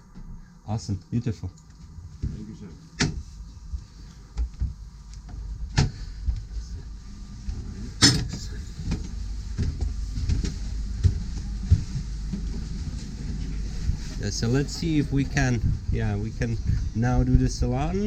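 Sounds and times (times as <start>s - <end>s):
low rumble: 1.8s - 18.0s.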